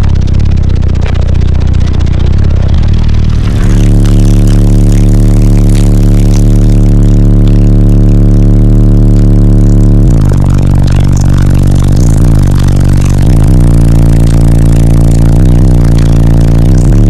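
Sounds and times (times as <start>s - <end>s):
very loud ultra-low bass notes: 0.0s - 17.0s.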